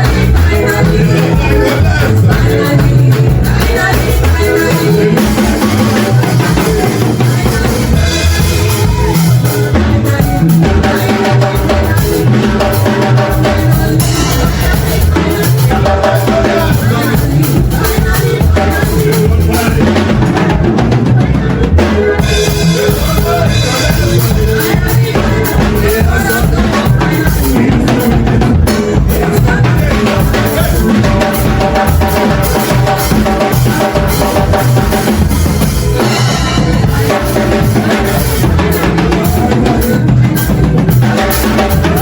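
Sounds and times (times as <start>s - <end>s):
drum kit beat: 0.0s - 42.0s
praise band music: 0.0s - 42.0s.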